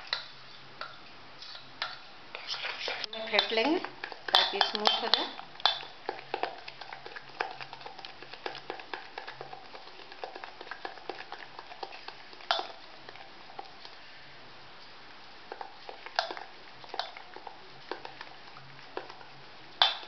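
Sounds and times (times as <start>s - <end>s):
batter slapping in bowl: 0.0s - 14.0s, 15.5s - 20.0s.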